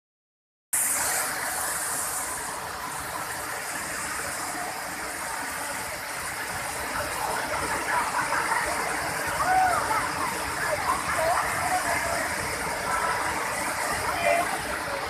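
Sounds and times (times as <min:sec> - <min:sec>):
waterfall rushing: 0:00.8 - 0:15.0.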